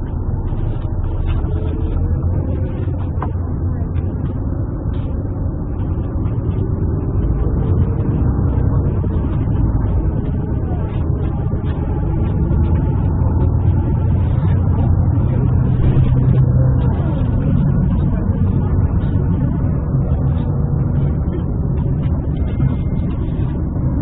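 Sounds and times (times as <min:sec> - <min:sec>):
faint engine tone: 0:00.0 - 0:24.0
traffic rumble: 0:00.0 - 0:24.0.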